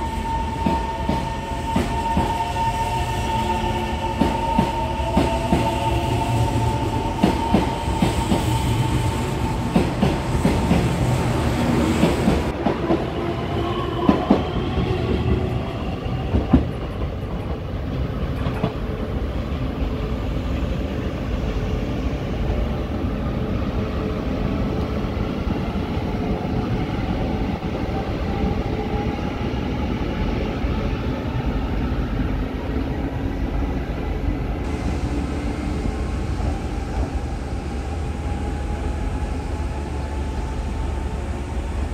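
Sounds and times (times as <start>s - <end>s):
train low rumble: 0.0s - 41.9s.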